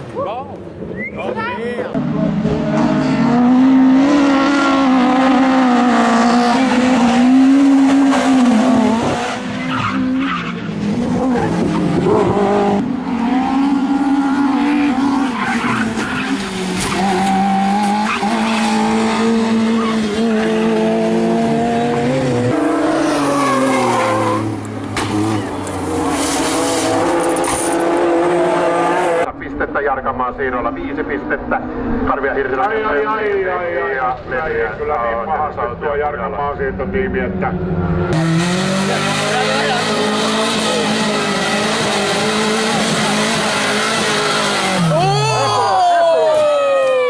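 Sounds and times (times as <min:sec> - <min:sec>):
tyres skidding: 0:00.0 - 0:29.3, 0:37.4 - 0:47.0
rally car engines revving: 0:00.0 - 0:47.0.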